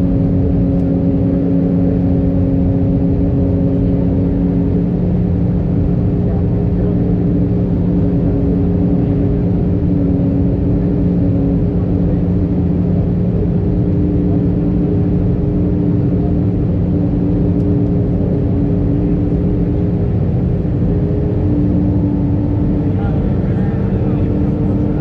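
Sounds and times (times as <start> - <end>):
airliner cabin engine rumble: 0.0 - 25.0
engine hum tones: 0.0 - 25.0.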